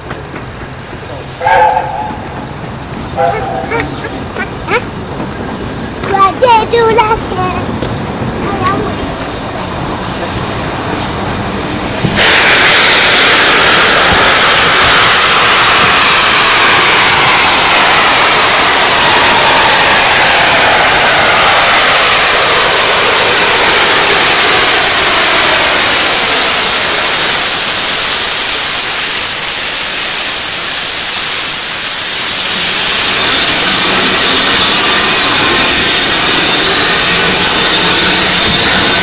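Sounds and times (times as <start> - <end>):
steam locomotive hissing steam: 0.0 - 39.0.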